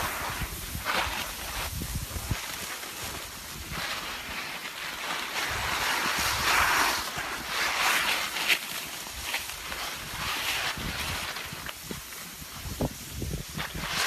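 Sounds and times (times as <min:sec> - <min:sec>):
wind on microphone: 0:00.0 - 0:04.2, 0:05.4 - 0:08.0, 0:09.1 - 0:14.0
skis scraping over snow: 0:00.0 - 0:14.0.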